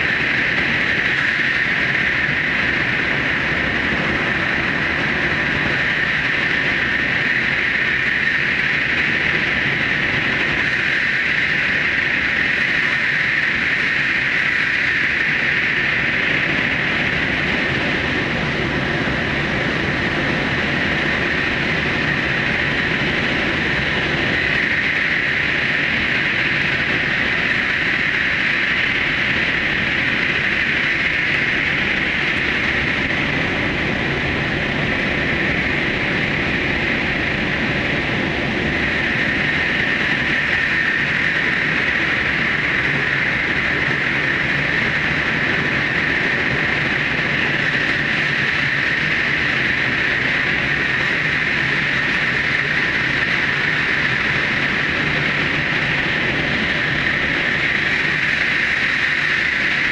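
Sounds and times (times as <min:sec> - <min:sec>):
train wheels on rail: 0:00.0 - 0:59.9.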